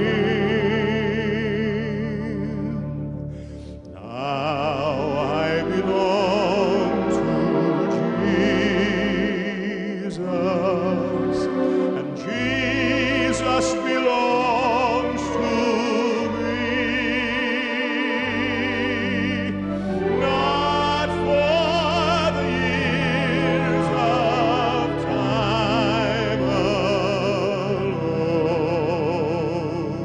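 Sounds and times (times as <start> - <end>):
classical voice singing with vibrato: 0.0 - 3.1, 3.9 - 30.0.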